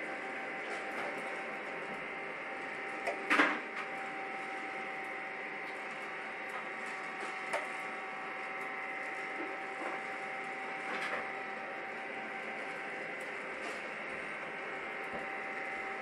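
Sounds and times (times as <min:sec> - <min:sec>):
coffee roaster humming: 0:00.0 - 0:16.0.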